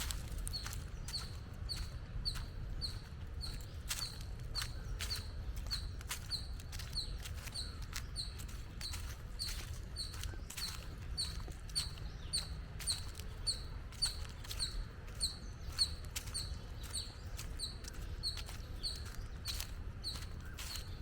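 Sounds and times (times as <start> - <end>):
bird chirping: 0.0 - 21.0
footsteps: 0.0 - 21.0
steady low rumble: 0.0 - 21.0.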